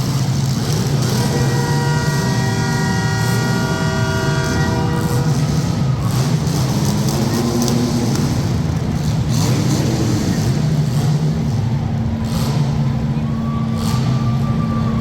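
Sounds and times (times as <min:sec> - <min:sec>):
car engines revving: 0:00.0 - 0:15.0
cars crashing: 0:00.0 - 0:15.0.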